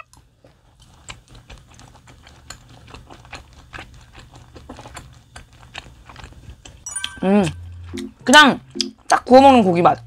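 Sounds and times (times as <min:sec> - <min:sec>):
person chewing meat: 0:00.0 - 0:09.1.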